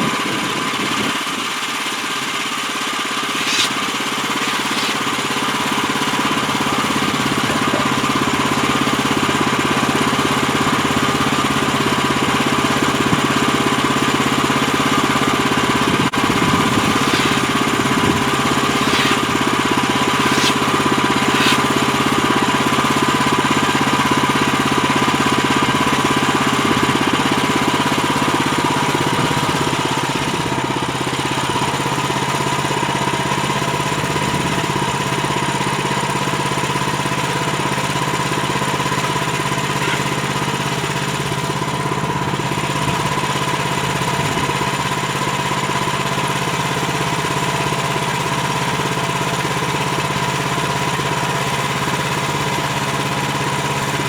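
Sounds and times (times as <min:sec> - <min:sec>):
bandsaw mill engine running: 0:00.0 - 0:34.2, 0:34.8 - 0:54.0.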